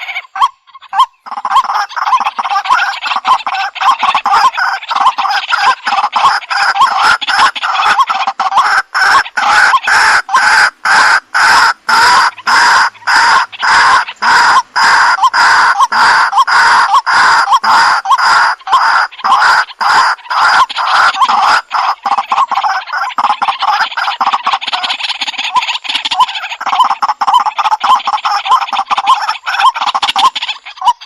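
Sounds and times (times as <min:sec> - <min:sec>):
waterhen calling: 0:00.0 - 0:31.0.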